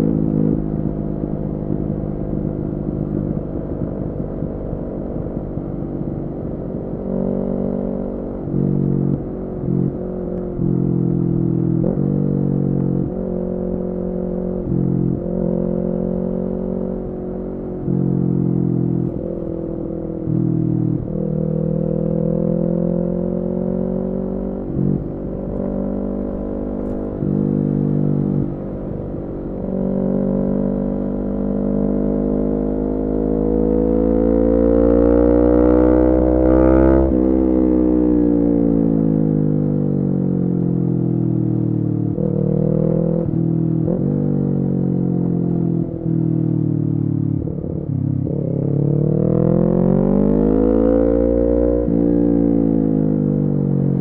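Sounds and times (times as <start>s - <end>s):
motorcycle engine revving: 1.7s - 54.0s.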